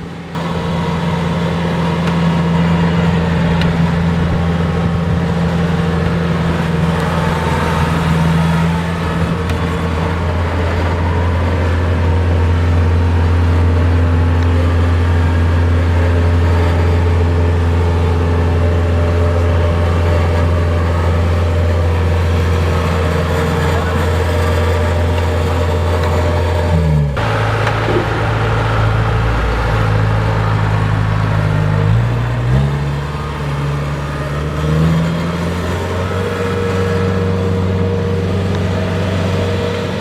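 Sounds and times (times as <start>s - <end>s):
combine harvester engine droning: 0.0s - 40.0s.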